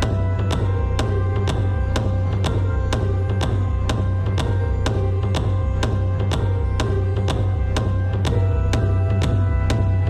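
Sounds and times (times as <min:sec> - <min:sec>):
music with drum beat and bass: 0:00.0 - 0:10.0.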